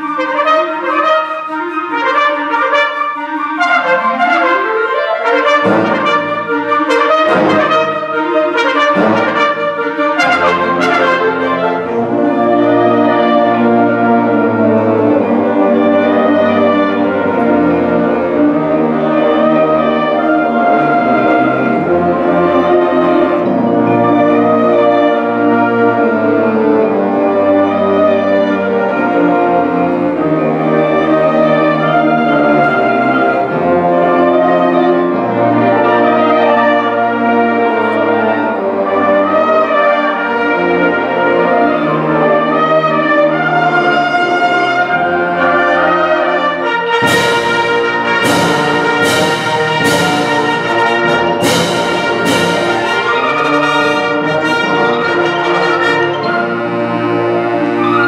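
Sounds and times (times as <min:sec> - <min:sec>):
wind ensemble playing: 0:00.0 - 0:58.0.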